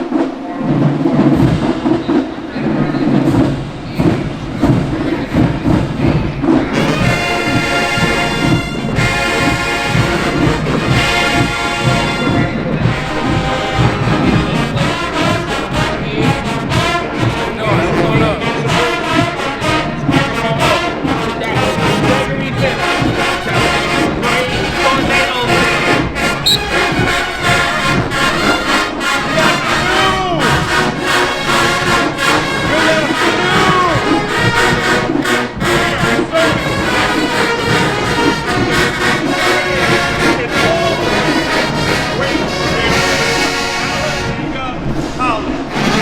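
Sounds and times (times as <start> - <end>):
crowd voices: 0.0 - 46.0
marching band brass playing: 0.0 - 46.0.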